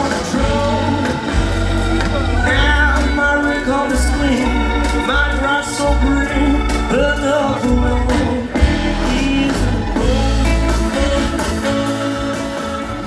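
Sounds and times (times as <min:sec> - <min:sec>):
drum kit: 0:00.0 - 0:13.0
keyboard: 0:00.0 - 0:13.0
live blues band playing: 0:00.0 - 0:13.0
person singing: 0:00.0 - 0:13.0.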